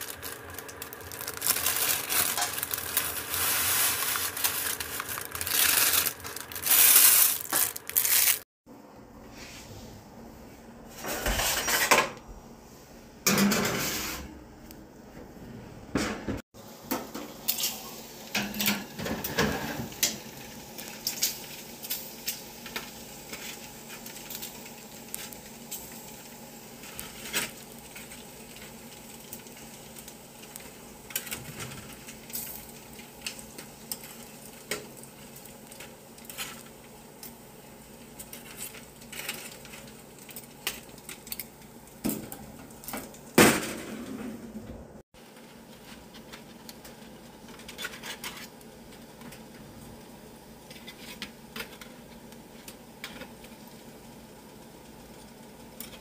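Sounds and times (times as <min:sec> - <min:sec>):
bacon sizzling: 0:00.0 - 0:08.5, 0:16.6 - 0:43.4, 0:45.3 - 0:56.0.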